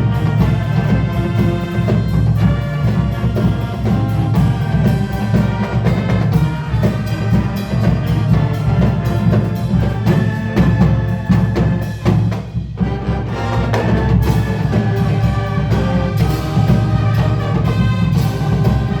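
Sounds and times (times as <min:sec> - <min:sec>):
brass chords: 0:00.0 - 0:19.0
drums and timpani: 0:00.0 - 0:19.0
marching band playing: 0:00.0 - 0:19.0.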